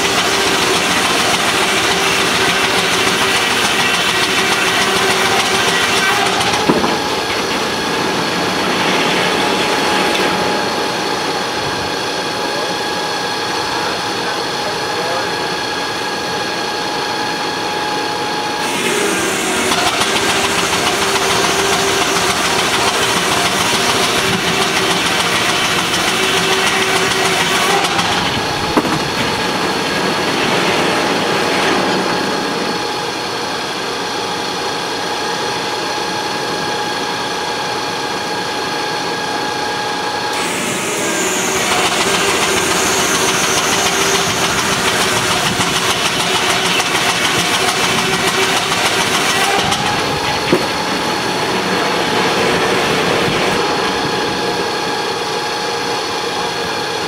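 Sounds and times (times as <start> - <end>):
sawmill machinery whining: 0.0 - 57.0.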